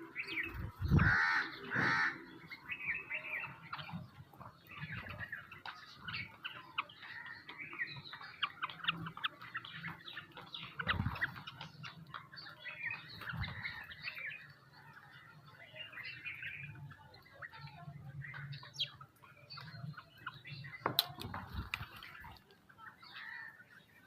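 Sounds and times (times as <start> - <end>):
birds chirping and chattering: 0.0 - 24.0.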